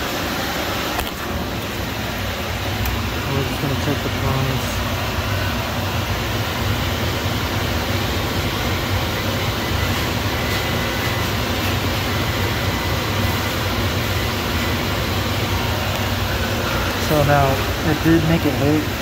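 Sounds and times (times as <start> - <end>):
low machinery drone: 0.0 - 19.0.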